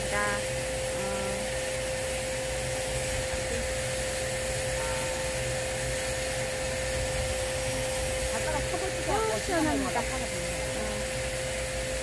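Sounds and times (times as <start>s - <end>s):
steady mechanical hum with hiss: 0.0s - 12.0s.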